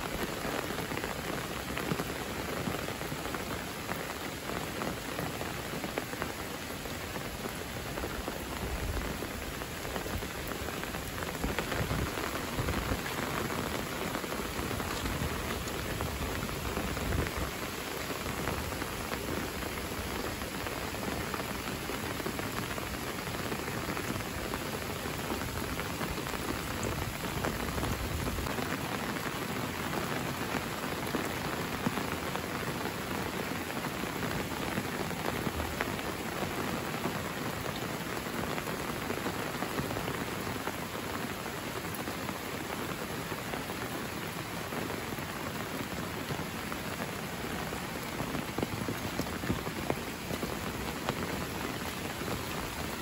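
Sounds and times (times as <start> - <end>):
rain on foliage and road: 0.0 - 53.0.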